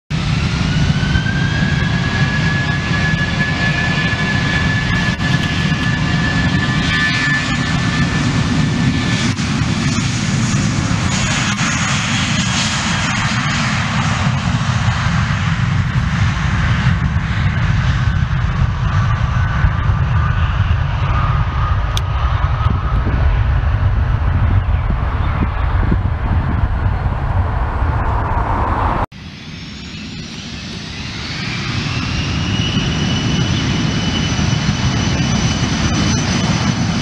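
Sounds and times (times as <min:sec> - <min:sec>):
aircraft rushing roar: 0:00.1 - 0:37.0
jet engines rumbling and whining: 0:00.1 - 0:37.0.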